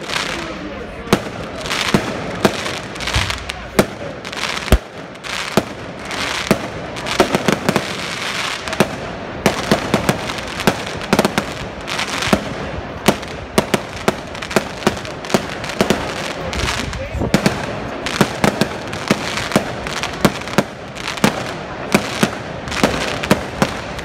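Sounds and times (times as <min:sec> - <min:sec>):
fireworks bangs: 0:00.0 - 0:24.0
fireworks crackle: 0:00.0 - 0:24.0.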